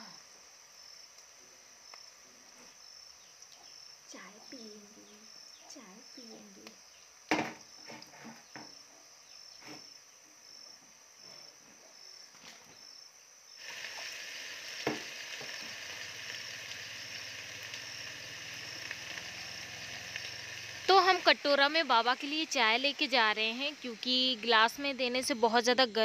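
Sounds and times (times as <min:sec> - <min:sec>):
sizzling hiss of cooking: 0:00.0 - 0:26.0.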